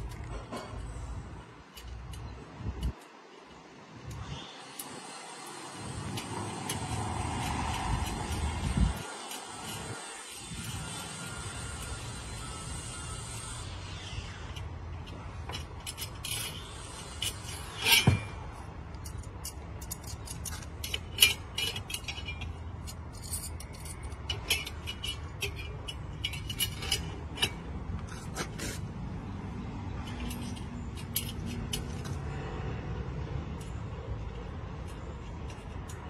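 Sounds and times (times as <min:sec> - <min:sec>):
metal clinks and scrapes: 0:00.0 - 0:36.0.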